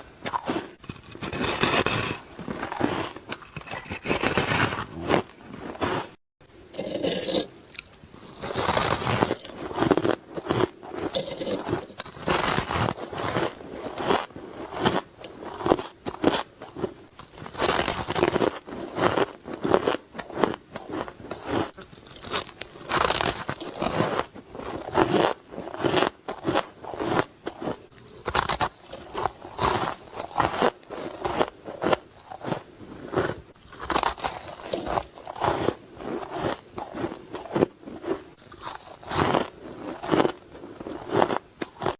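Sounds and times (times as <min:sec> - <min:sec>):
crushed ice being chewed: 0:00.0 - 0:41.9.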